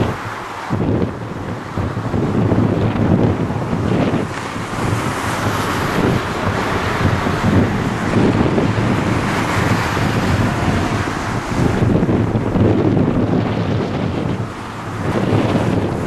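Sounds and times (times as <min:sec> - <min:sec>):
jet engines at takeoff thrust: 0:00.0 - 0:16.0
wind buffeting microphone: 0:00.0 - 0:16.0.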